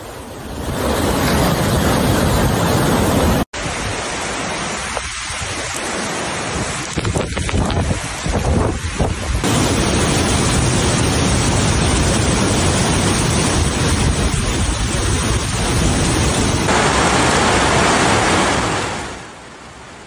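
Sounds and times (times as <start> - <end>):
floodwater rushing in street: 0.0 - 20.0
heavy rain: 0.0 - 20.0.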